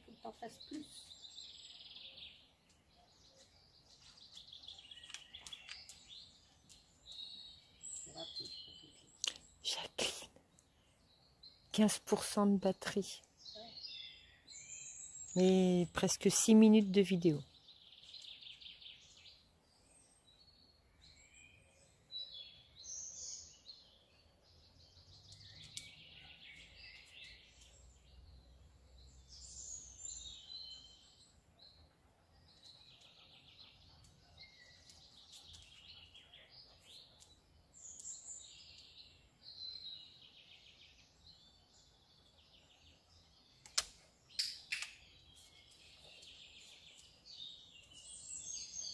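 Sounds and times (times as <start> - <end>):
faint birdsong: 0.0 - 48.9.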